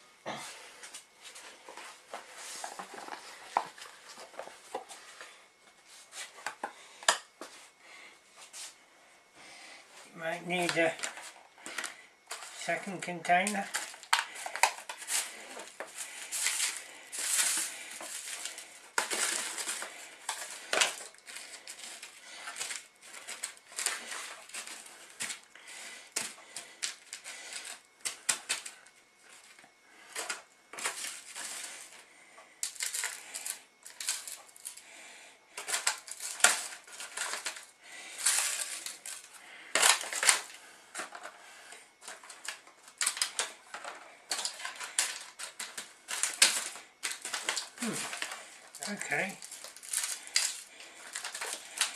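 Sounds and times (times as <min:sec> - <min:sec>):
foil trays crinkling and clattering: 0:00.3 - 0:05.4, 0:10.2 - 0:51.9.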